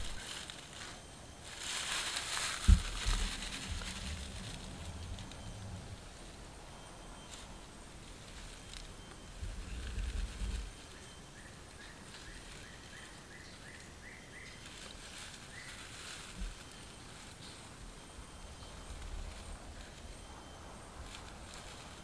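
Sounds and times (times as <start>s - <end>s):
soft rustling of wood shavings: 0.0s - 22.0s.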